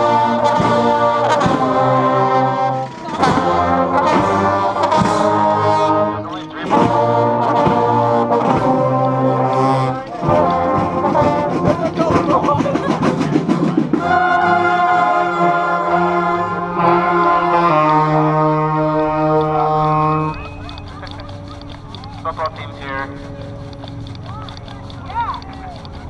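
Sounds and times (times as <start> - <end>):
brass band playing chords: 0.0 - 26.0.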